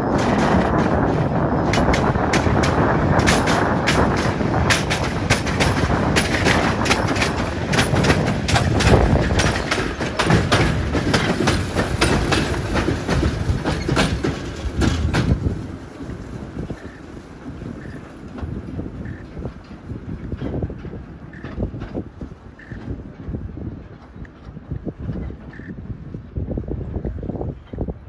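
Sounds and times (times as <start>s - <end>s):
train rumbling past: 0.0s - 28.0s
wheels clicking over rail joints: 0.0s - 28.0s.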